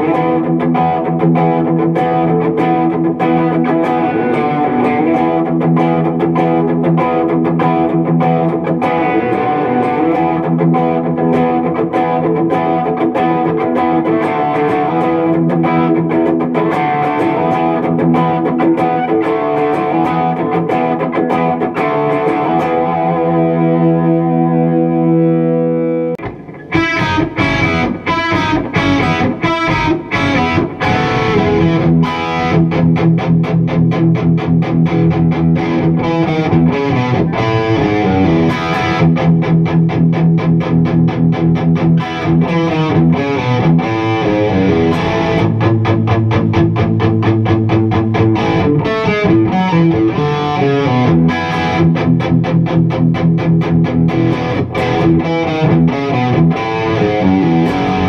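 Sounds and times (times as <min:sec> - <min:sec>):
distorted rock guitar riffing: 0:00.0 - 0:58.0
electric guitar chord ringing: 0:00.0 - 0:58.0.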